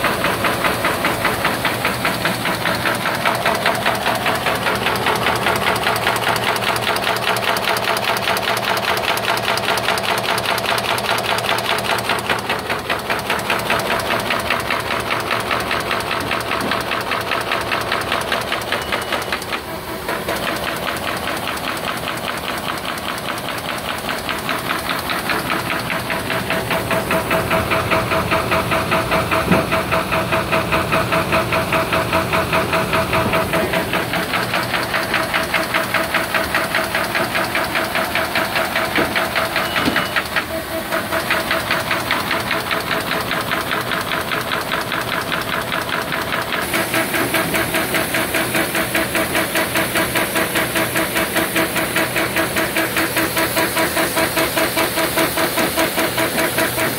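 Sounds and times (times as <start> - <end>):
paper folding machine clattering: 0.0 - 56.9.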